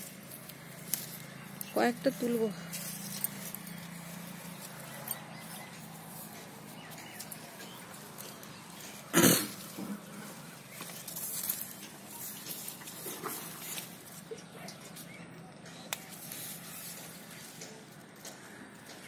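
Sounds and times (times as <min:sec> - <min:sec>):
leaves rustling: 0:00.0 - 0:14.3, 0:15.9 - 0:18.0.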